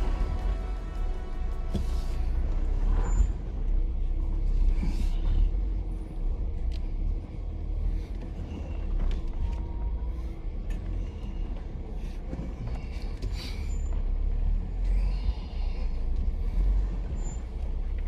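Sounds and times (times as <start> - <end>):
tires and suspension clunking: 0.0 - 18.0
vehicle engine rumble: 0.0 - 18.0.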